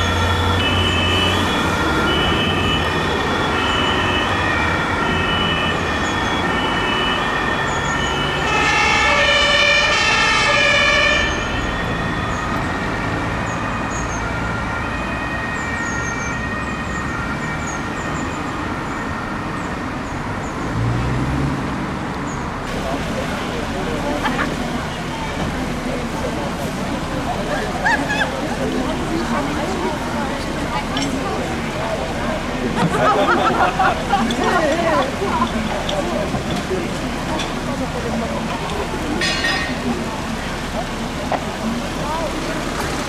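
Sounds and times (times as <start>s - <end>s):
two-tone fire engine sirens: 0.0s - 43.0s
vehicle engines humming: 0.0s - 43.0s.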